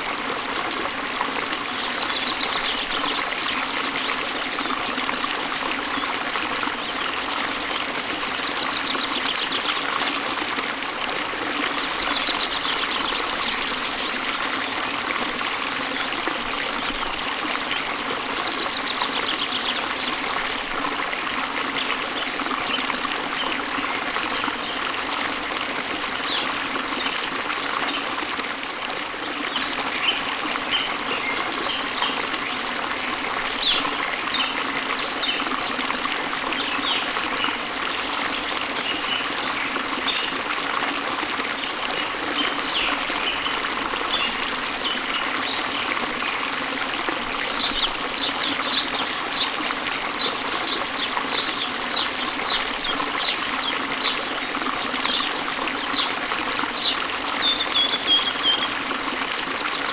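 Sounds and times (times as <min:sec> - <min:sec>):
waterfall and stream flowing: 0:00.0 - 0:59.9.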